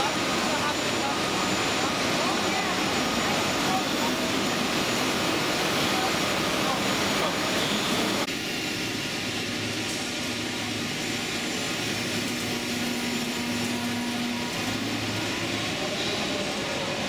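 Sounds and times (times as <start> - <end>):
train equipment humming: 0.0 - 17.0.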